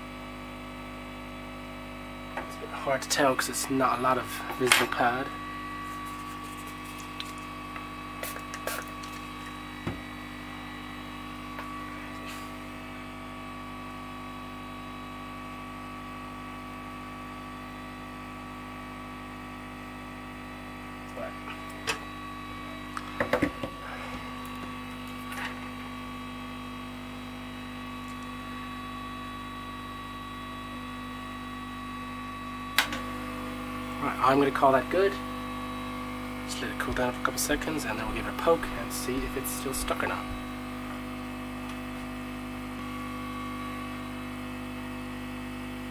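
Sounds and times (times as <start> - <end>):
hot-air gun whirring hum: 0.0 - 45.9.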